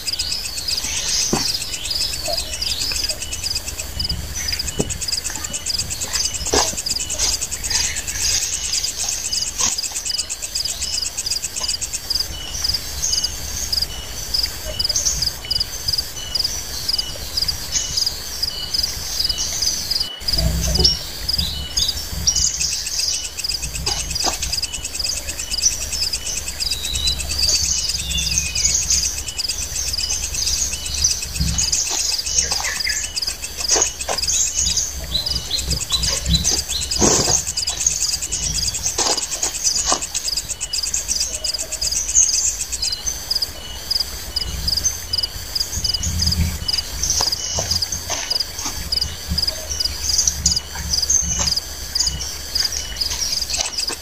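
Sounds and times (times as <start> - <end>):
birds chirping: 0.0 - 54.0
insects trilling: 0.0 - 54.0.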